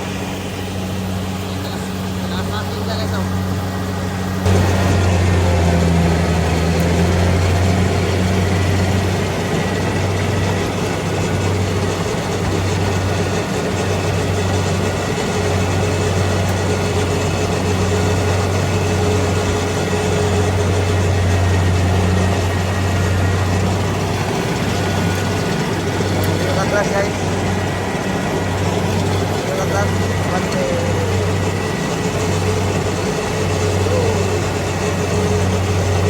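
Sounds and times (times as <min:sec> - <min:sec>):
combine harvester engine running: 0:00.0 - 0:36.0.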